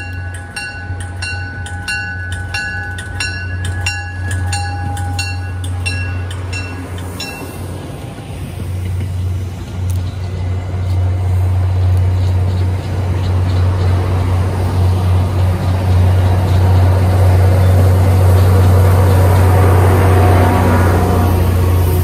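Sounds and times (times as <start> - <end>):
low diesel drone: 0.0 - 22.0
train coaches rolling on rails: 0.0 - 22.0.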